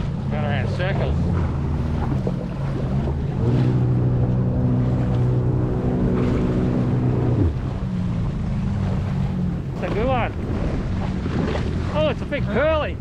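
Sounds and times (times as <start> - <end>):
jet ski engine running: 0.0 - 13.0
water noise: 0.0 - 13.0
wind: 0.0 - 13.0.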